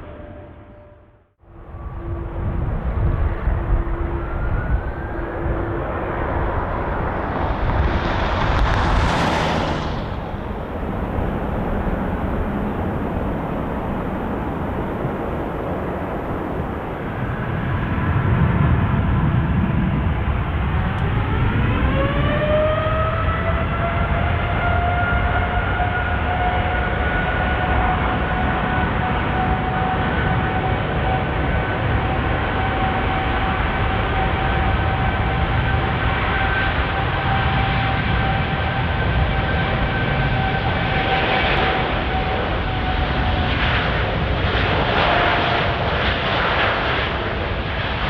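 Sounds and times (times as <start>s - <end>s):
jet engines rumbling: 0.0s - 48.0s
rising engine whine: 0.0s - 48.0s.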